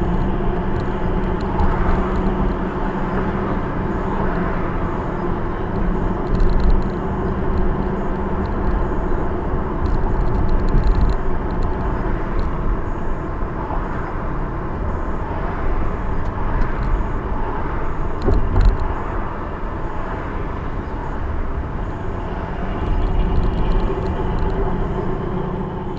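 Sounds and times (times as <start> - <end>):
car road and engine rumble: 0.0 - 25.9.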